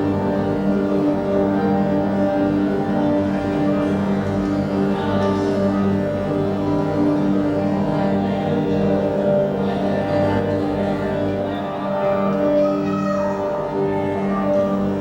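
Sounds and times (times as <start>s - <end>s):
crowd footsteps and voices: 0.0s - 15.0s.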